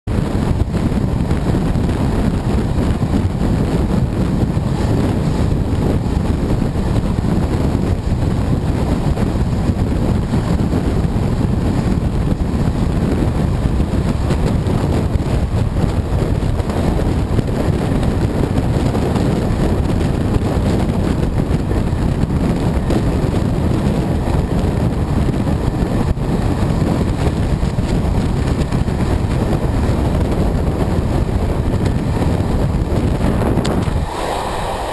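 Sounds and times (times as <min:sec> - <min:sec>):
train running on track: 0:00.1 - 0:34.9
wind buffeting microphone: 0:00.1 - 0:34.9.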